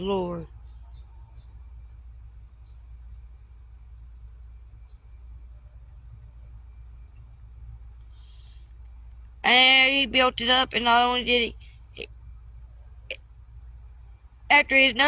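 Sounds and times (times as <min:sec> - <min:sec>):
crickets chirring: 0:00.0 - 0:15.0
low steady hum: 0:00.0 - 0:15.0.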